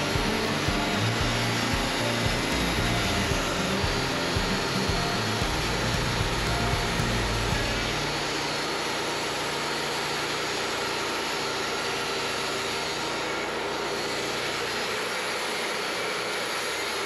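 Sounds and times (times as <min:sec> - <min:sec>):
bandsaw mill cutting log: 0:00.0 - 0:17.0.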